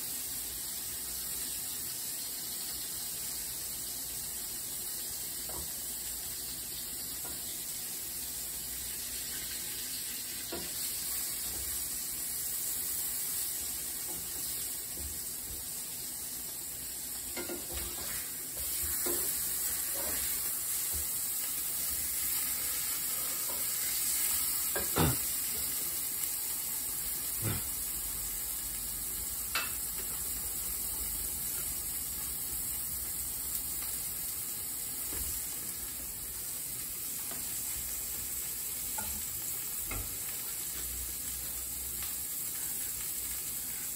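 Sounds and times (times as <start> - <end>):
burger patties sizzling in a pan: 0.0 - 43.9.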